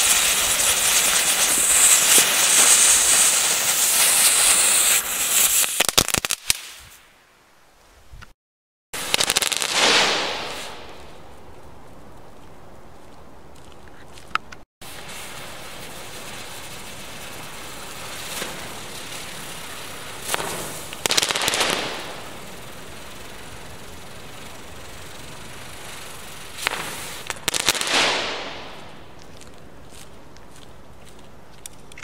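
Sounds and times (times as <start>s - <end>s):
firework crackling: 0.0s - 7.3s, 9.0s - 13.8s, 14.8s - 31.3s.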